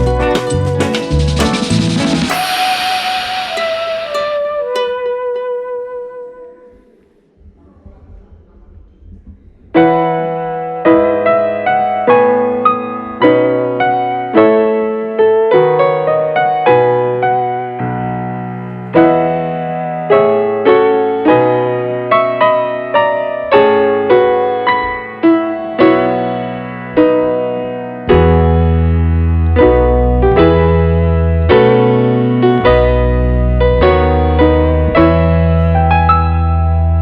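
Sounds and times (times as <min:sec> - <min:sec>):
gentle piano melody: 0:00.0 - 0:06.5, 0:09.9 - 0:37.0.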